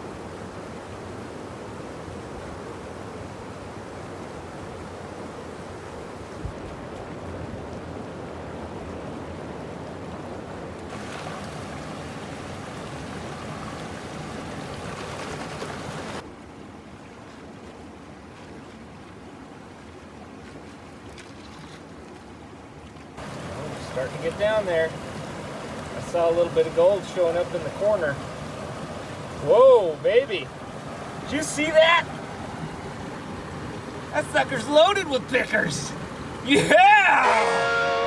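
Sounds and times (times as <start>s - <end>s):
river water rushing: 0.0s - 18.2s, 22.7s - 38.0s.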